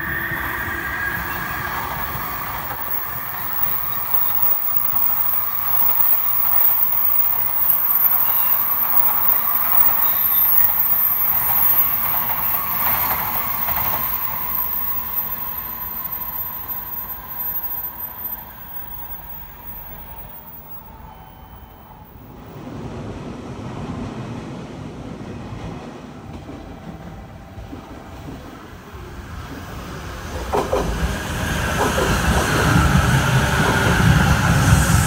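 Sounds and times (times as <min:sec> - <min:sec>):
train running past: 0:00.0 - 0:35.0.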